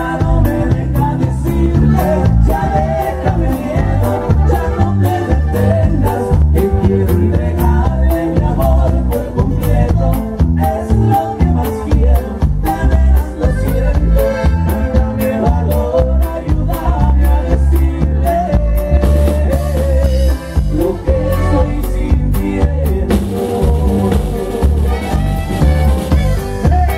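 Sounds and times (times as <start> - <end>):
live band music: 0.0 - 26.9.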